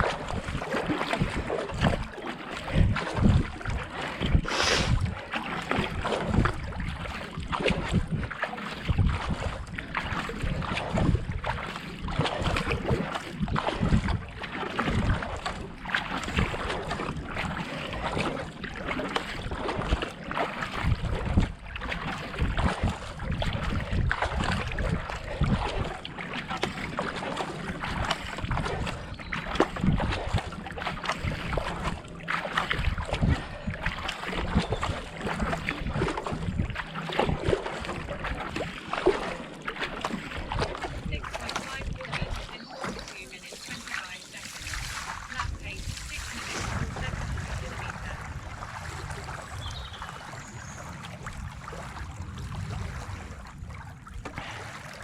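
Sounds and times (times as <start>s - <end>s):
paddle strokes through water: 0.0s - 55.0s
water rushing along hull: 0.0s - 55.0s
wind on microphone: 0.0s - 55.0s.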